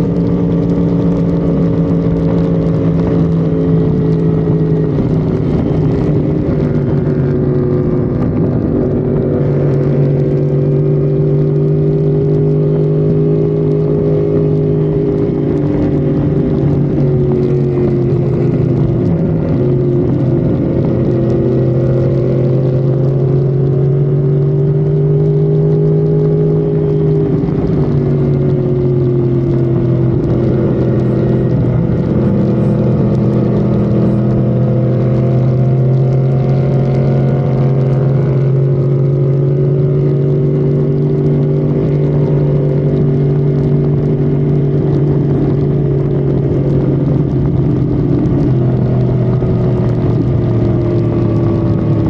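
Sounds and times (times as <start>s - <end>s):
car engine droning at speed: 0.0s - 52.0s.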